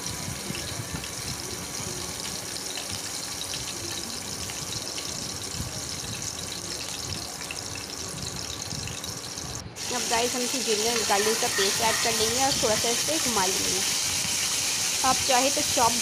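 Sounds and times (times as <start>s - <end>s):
oil sizzling with crackles: 0.0s - 16.0s.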